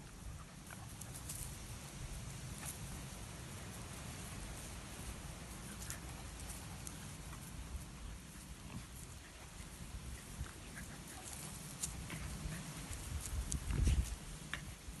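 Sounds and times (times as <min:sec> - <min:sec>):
dogs scuffling on grass: 0:00.0 - 0:15.0.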